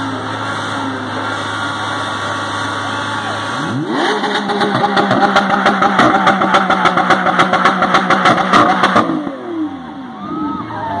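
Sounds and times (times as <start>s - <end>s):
sports car engine revving with pops: 0.0s - 10.0s.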